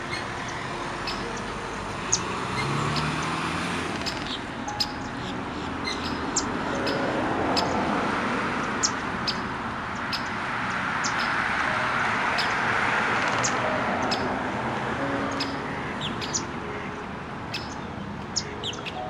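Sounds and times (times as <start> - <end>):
birds chirping: 0.0 - 19.0
road traffic noise: 0.0 - 19.0.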